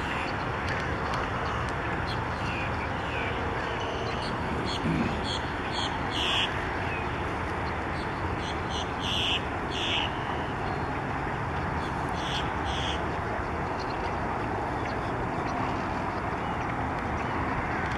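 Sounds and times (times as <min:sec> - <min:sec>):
background rush of noise: 0:00.0 - 0:17.9.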